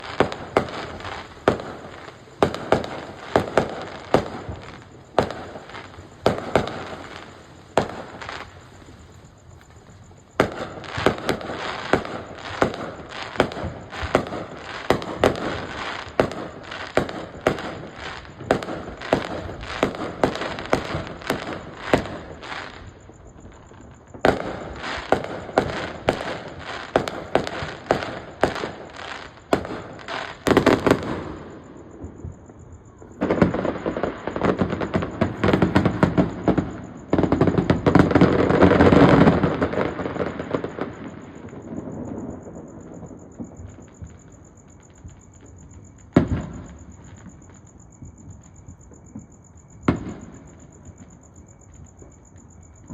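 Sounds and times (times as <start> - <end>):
fireworks banging: 0.0 - 47.6, 48.2 - 52.9.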